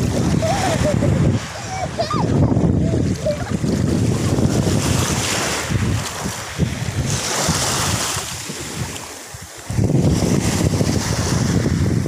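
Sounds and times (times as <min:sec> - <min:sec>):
waves washing over pebbles: 0:00.0 - 0:12.0
wind buffeting microphone: 0:00.0 - 0:12.0.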